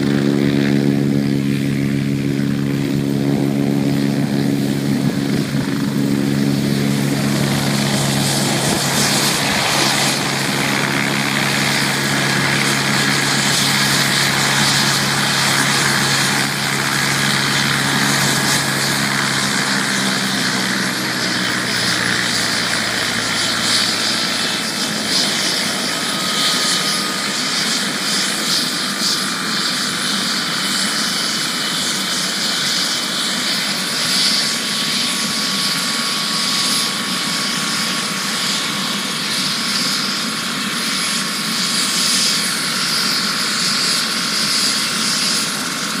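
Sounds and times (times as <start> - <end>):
helicopter engine and rotor noise: 0.0 - 46.0
helicopter turbine whine: 0.0 - 46.0.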